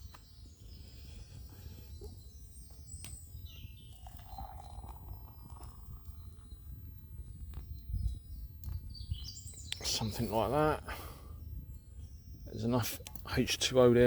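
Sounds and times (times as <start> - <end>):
wind rumble on microphone: 0.0 - 13.4
small birds chirping: 0.0 - 14.0.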